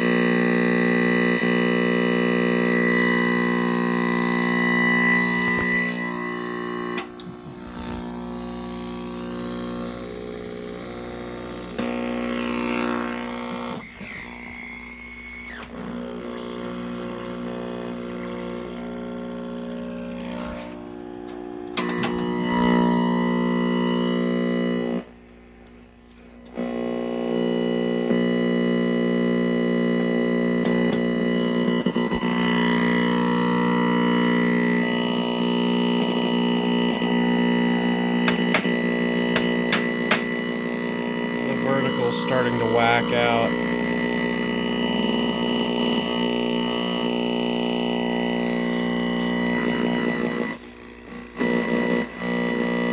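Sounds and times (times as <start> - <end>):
music with distorted buzz: 0.0 - 52.9.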